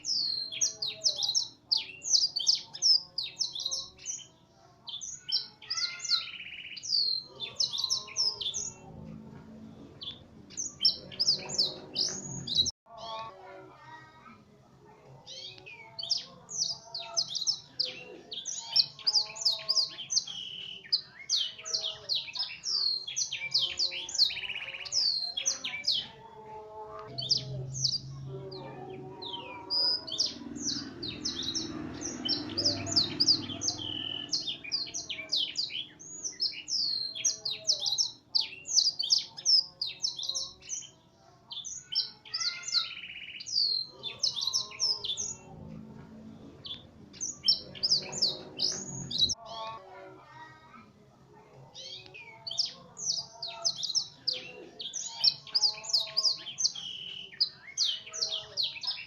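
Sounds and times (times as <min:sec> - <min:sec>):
canary singing: 0:00.0 - 0:14.3, 0:15.1 - 0:50.8, 0:51.6 - 0:59.0.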